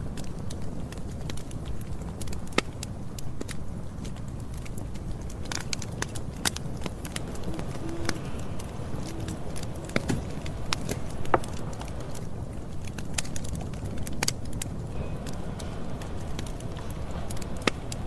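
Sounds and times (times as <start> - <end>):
low rumble of flames: 0.0 - 18.0
wood crackling and popping: 0.0 - 18.0.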